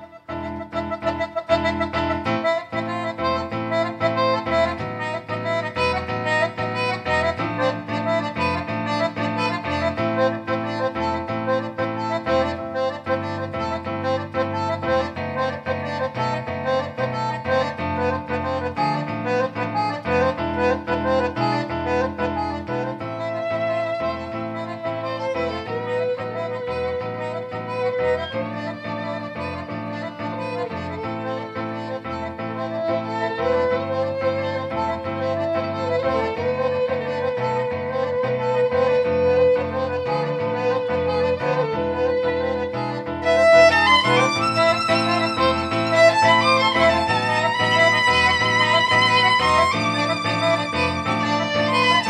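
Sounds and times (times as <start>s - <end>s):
accordion melody: 0.0s - 52.0s
rhythmic bass accompaniment: 0.0s - 52.0s
violin: 0.0s - 52.0s.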